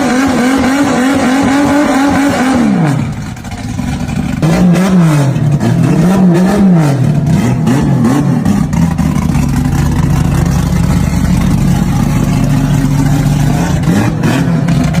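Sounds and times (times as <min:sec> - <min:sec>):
car engine revving: 0:00.0 - 0:15.0
car engine idling: 0:02.5 - 0:15.0.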